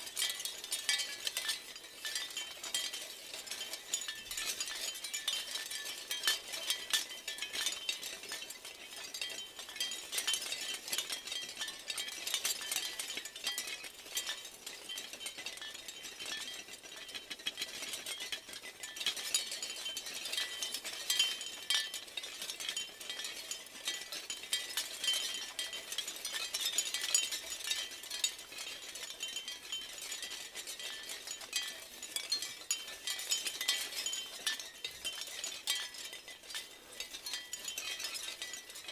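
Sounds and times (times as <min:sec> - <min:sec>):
wind chimes clinking: 0:00.0 - 0:38.9.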